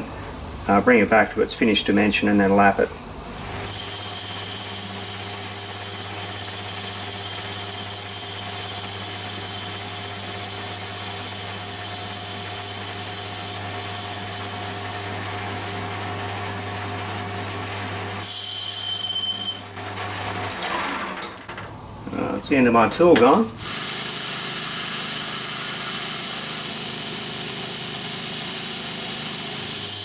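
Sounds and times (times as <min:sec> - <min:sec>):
cutting tool hiss: 0:00.0 - 0:15.7, 0:18.2 - 0:19.5, 0:21.7 - 0:30.0.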